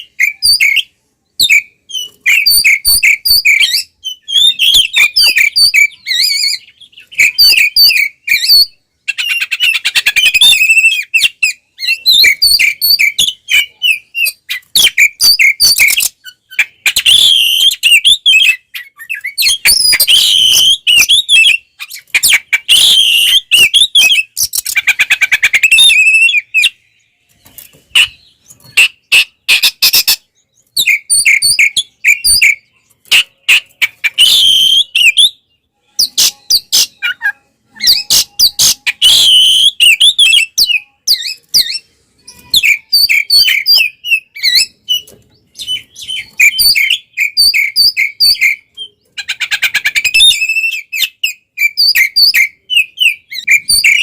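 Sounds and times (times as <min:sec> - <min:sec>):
songbird singing whistled phrases: 0:00.0 - 0:54.0.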